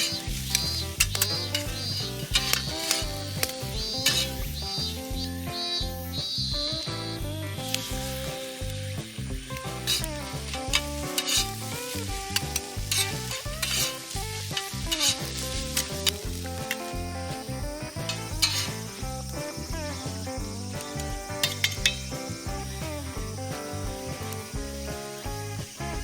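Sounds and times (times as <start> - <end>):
background music: 0.0 - 26.0
rice sizzling in a pan: 0.0 - 26.0
spatula scraping a pan: 0.0 - 26.0.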